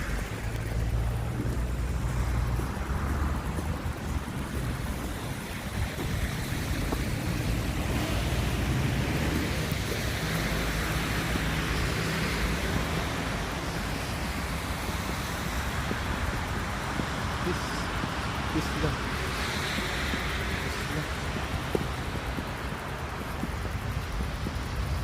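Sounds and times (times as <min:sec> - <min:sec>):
tyre hiss on wet street: 0:00.0 - 0:25.0
wind rumble on microphone: 0:00.0 - 0:25.0.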